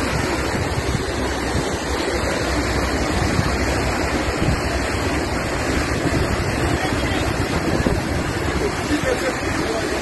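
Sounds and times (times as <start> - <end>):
floodwater rushing across road: 0.0 - 10.0.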